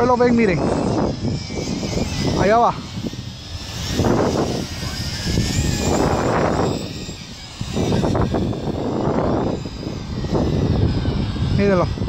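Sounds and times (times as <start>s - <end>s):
distant drone motors whining: 0.0s - 12.0s
wind buffeting microphone: 0.0s - 12.0s.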